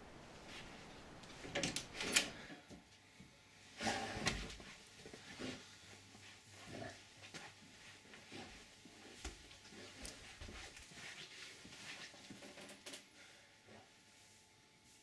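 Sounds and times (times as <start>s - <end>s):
low steady hum: 0.0s - 15.0s
soft footsteps indoors: 0.0s - 15.0s
small knocks and rustles: 0.4s - 3.3s, 4.0s - 13.1s.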